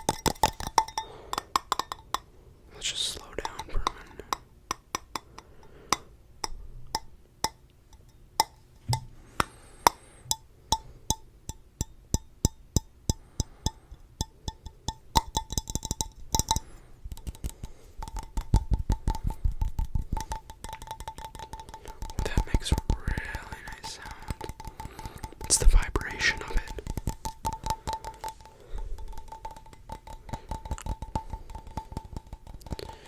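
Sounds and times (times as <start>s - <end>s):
fingers tapping on hard object: 0.0s - 2.3s, 3.1s - 33.0s.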